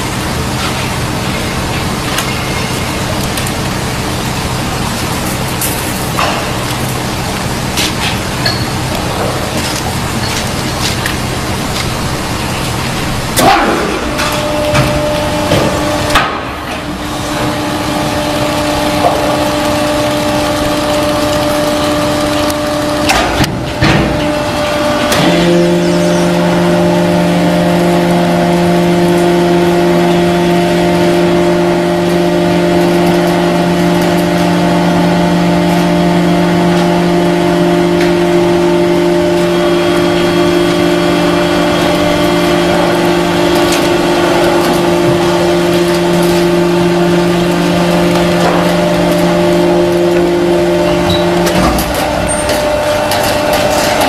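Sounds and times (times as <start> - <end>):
hydraulic power unit humming: 0.0 - 54.0.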